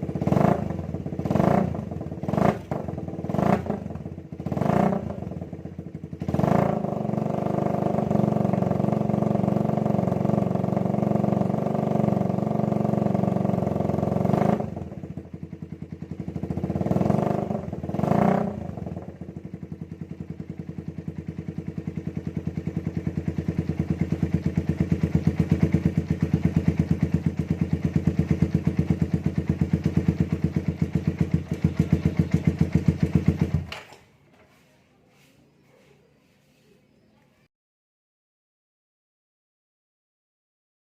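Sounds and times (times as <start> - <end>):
motorcycle engine revving and idling: 0.0 - 34.7.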